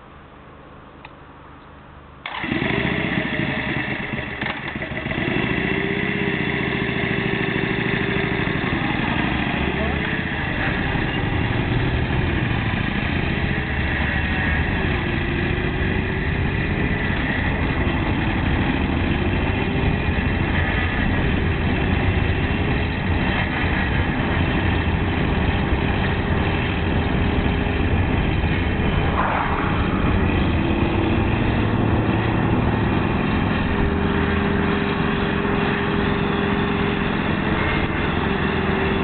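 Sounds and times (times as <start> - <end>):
motorcycle engine running: 2.3 - 39.0.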